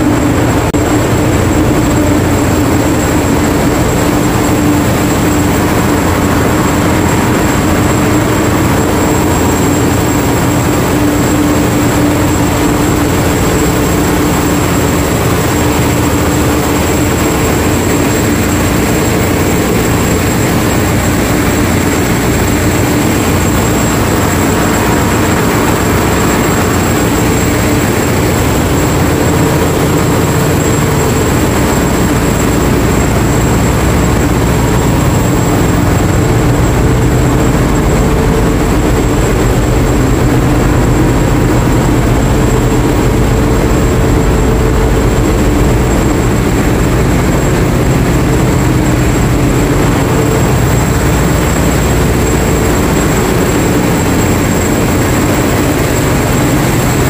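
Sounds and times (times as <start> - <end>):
diesel engine room drone: 0.0 - 57.0
thin high whine: 0.0 - 57.0.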